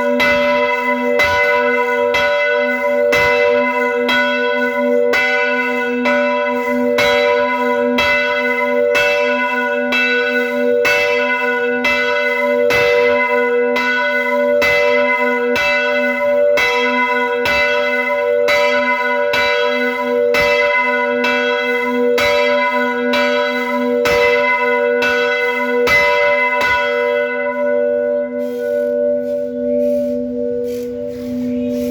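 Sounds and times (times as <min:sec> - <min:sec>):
church bell tolling: 0:00.0 - 0:31.9.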